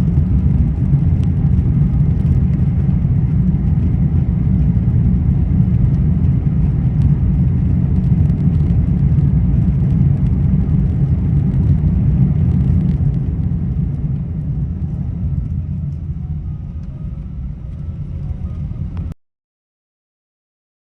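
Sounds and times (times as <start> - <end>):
airliner rumble: 0.0 - 19.2.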